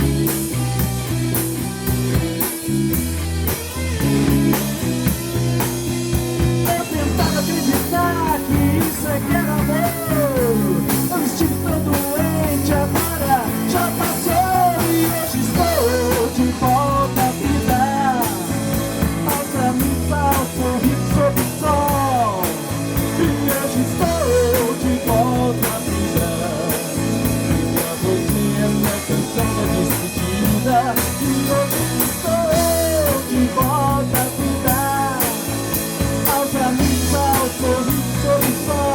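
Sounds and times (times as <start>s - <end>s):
rock band instrumental: 0.0s - 38.9s.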